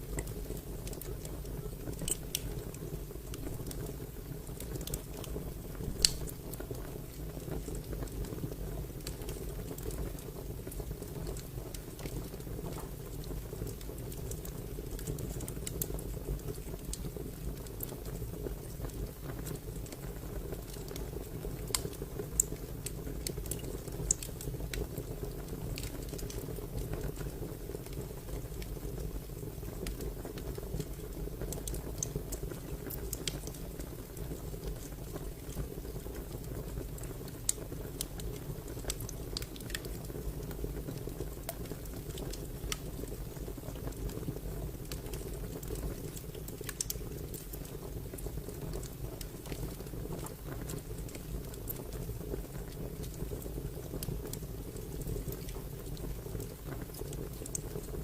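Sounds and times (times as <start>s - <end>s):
fire crackling: 0.0s - 58.0s
fire pops and snaps: 0.1s - 58.0s.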